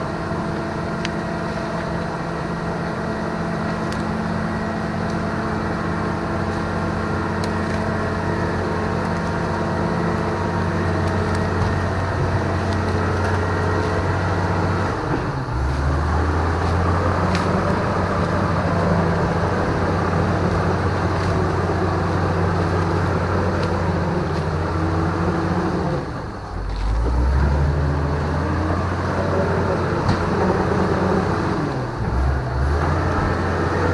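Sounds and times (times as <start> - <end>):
machine engine running: 0.0 - 33.9.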